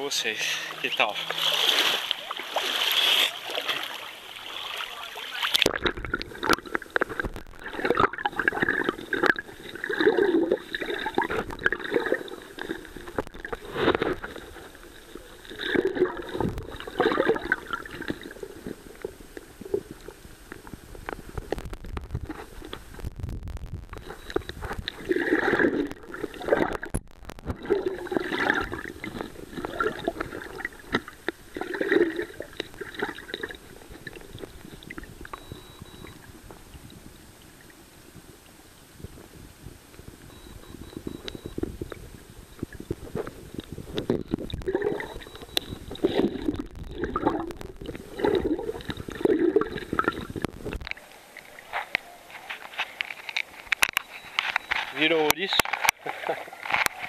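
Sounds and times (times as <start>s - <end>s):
water at surface: 0.0s - 57.0s.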